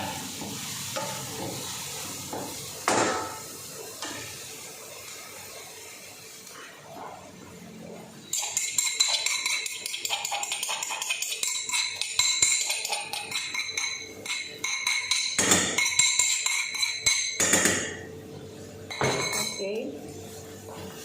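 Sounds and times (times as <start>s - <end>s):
onion and garlic sizzling in oil: 0.0s - 7.4s, 8.0s - 18.0s, 19.2s - 21.0s.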